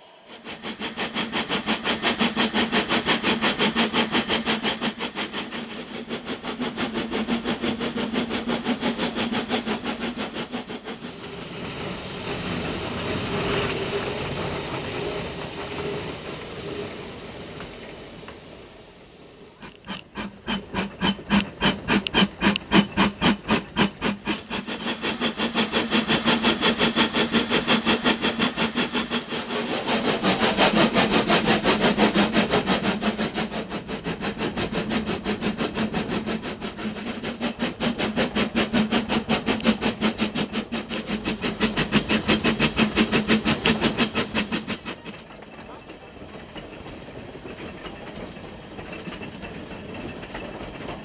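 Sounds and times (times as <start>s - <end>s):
steam hiss: 0.0s - 51.0s
steam locomotive exhaust chuffs: 0.0s - 51.0s.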